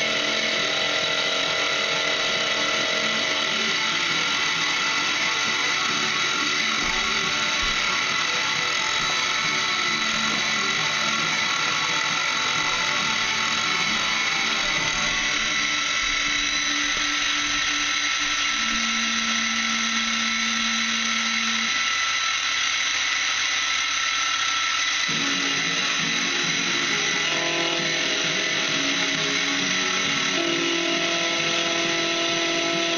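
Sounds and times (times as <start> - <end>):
milling machine whirring: 0.0 - 32.9.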